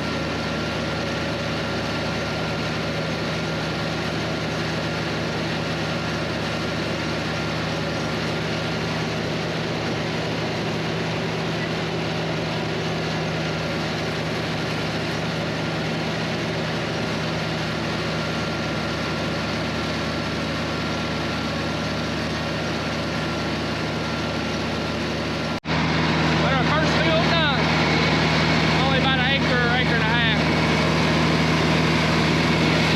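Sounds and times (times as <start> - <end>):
disc mower cutting hay: 0.0 - 32.9
tractor engine under load: 0.0 - 32.9.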